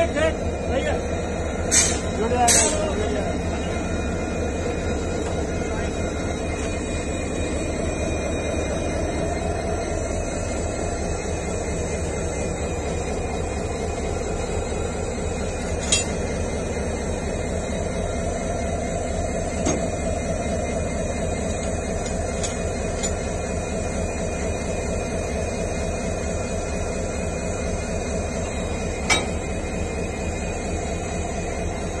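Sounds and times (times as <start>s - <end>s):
steady mechanical rumble: 0.0s - 32.0s.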